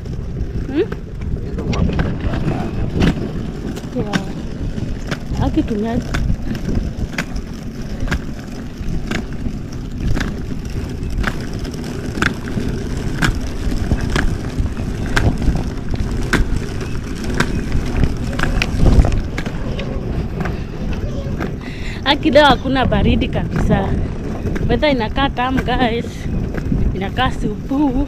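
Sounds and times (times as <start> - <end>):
continuous low rumble: 0.0 - 28.0.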